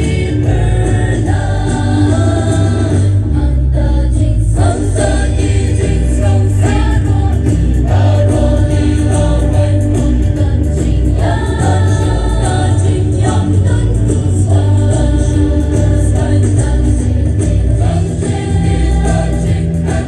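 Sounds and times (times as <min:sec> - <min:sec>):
mixed choir singing: 0:00.0 - 0:20.0.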